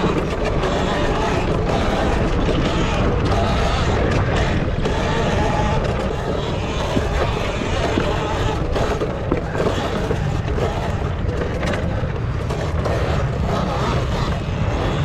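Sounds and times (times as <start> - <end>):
dirt bike riding: 0.0 - 15.0
knocks and rattles: 0.0 - 15.0.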